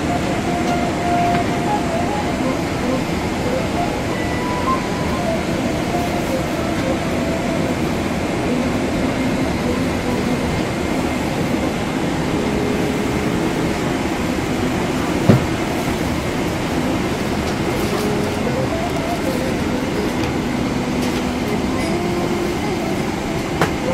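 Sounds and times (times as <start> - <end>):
airliner cabin noise: 0.0 - 23.9.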